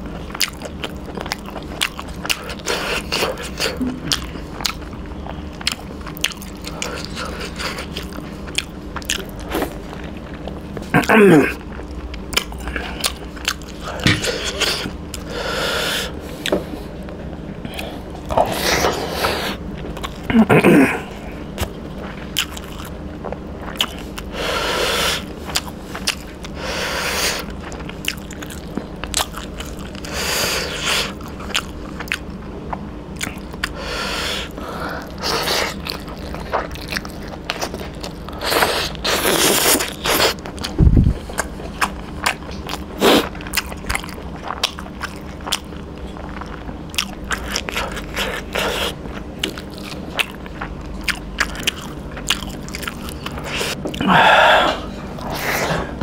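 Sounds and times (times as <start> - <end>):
man chewing and biting: 0.0 - 56.0.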